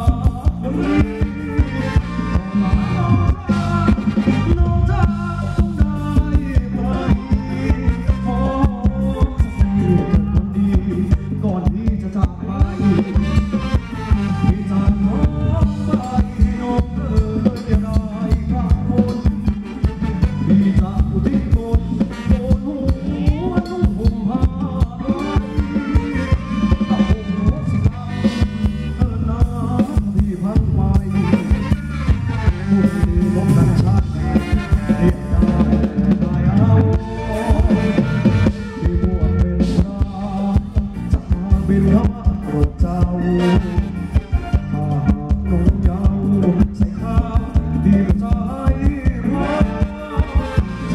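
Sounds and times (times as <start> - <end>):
live band playing dance music: 0.0 - 50.9
steady drum beat: 0.0 - 50.9
strong bass: 0.0 - 50.9.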